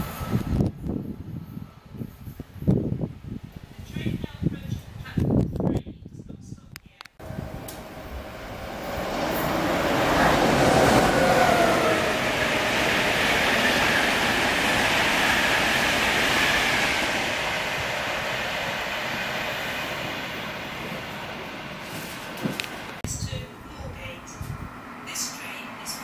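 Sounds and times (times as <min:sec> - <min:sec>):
express train passing at speed: 0:00.0 - 0:05.0, 0:07.2 - 0:26.0.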